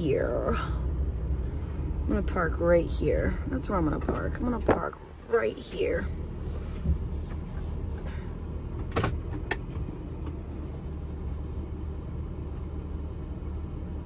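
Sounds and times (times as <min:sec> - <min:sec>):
van engine rumbling: 0:00.0 - 0:14.0.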